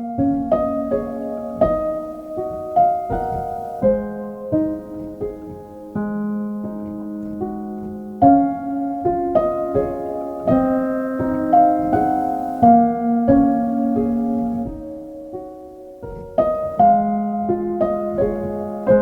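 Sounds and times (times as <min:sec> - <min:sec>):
soft solo piano music: 0:00.0 - 0:19.0.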